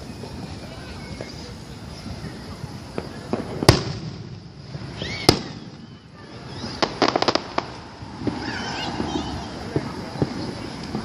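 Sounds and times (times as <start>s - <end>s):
crackling firework pops: 0.0s - 1.5s, 2.2s - 11.0s
fireworks bangs: 0.0s - 11.0s.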